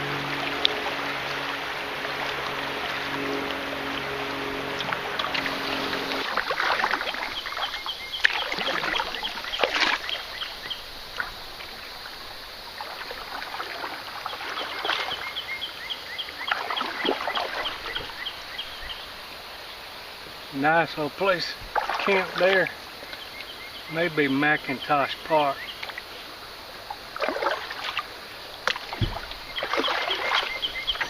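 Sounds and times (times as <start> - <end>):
paddle strokes splashing: 0.0 - 31.0.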